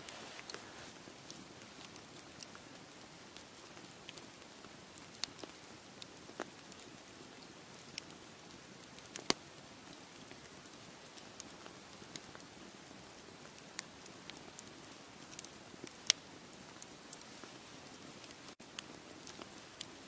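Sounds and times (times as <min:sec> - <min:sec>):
campfire crackling: 0:00.0 - 0:20.0
steady background hiss: 0:00.0 - 0:20.0.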